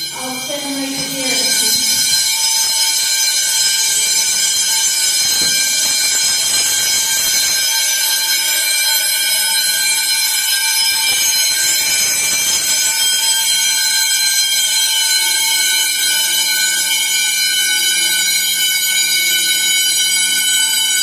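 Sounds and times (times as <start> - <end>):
fire alarm ringing: 0.0 - 21.0.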